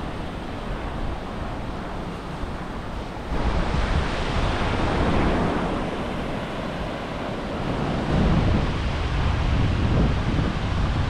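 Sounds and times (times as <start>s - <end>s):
small waves breaking on beach: 0.0s - 11.0s
wind buffeting microphone: 0.0s - 11.0s.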